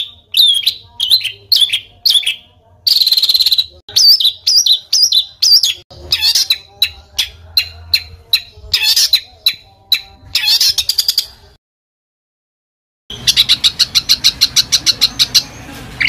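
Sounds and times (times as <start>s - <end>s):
songbird harsh chirps and trills: 0.0s - 11.5s, 13.1s - 16.0s.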